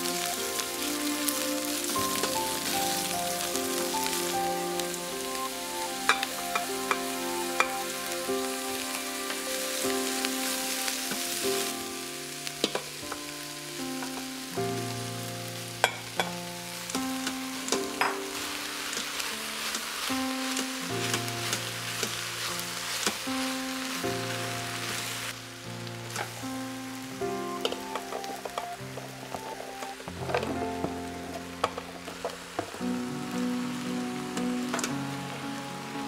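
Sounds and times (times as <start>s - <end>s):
onions sizzling in oil: 0.0s - 36.0s
soft background music: 0.0s - 36.0s.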